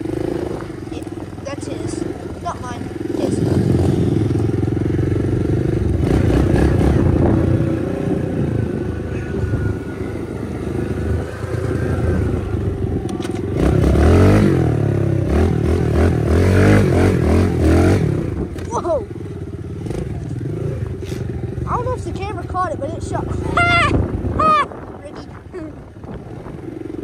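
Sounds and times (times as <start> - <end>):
motorbike engine revving: 0.0 - 27.0.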